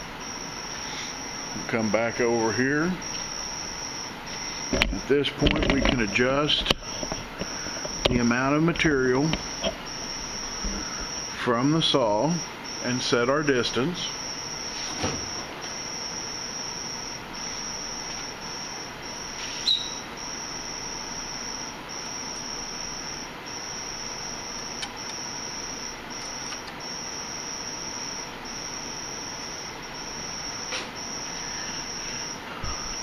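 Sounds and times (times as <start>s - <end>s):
high-pitched whine: 0.0s - 33.0s.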